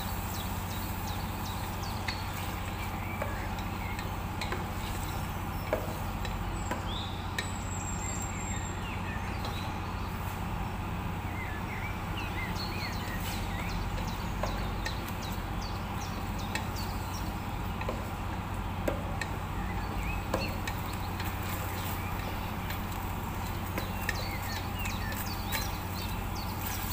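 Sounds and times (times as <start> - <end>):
steady low hum and hiss: 0.0 - 26.9.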